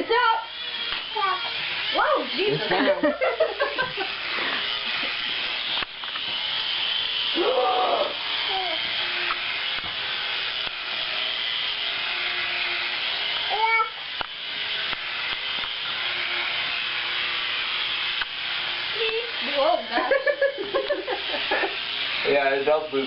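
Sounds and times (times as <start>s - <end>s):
toy helicopter rotor whirring: 0.0s - 23.0s.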